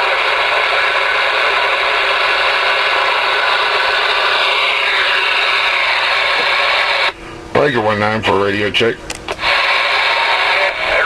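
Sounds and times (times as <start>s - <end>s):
radio receiver static: 0.0s - 8.7s, 9.3s - 11.0s.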